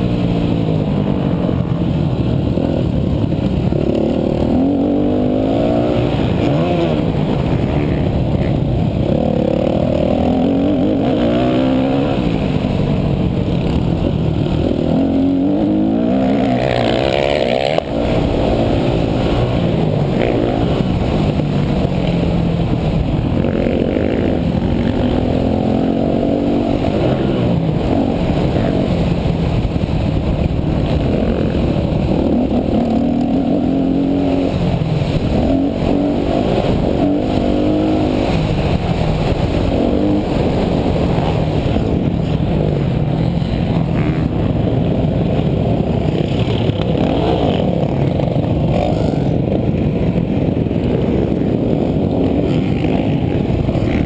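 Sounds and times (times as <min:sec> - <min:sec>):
dirt bike engine revving: 0:00.0 - 0:44.6, 0:45.7 - 0:49.5.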